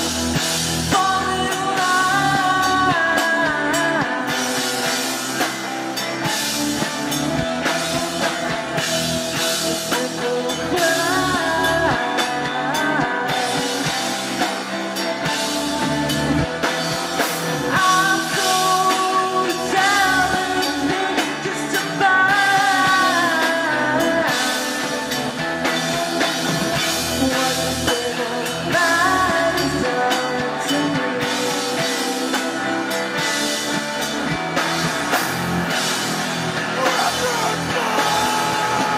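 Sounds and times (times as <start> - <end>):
person singing: 0.0 - 33.8, 36.6 - 38.9
bass guitar: 0.0 - 38.9
drum kit: 0.0 - 38.9
electric guitars: 0.0 - 38.9.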